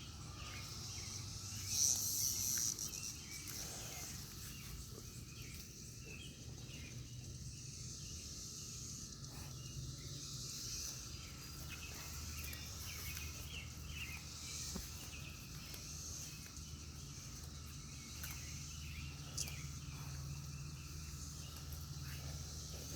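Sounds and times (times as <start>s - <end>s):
cicadas buzzing: 0.0s - 22.9s.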